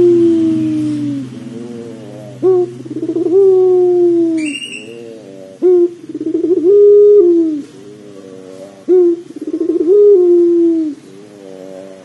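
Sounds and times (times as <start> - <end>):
dove cooing: 0.0 - 12.0
low steady hum: 0.0 - 12.0.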